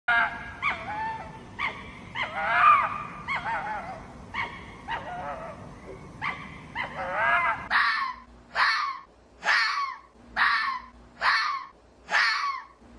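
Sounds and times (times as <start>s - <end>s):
fox yips and whining calls: 0.1s - 12.8s.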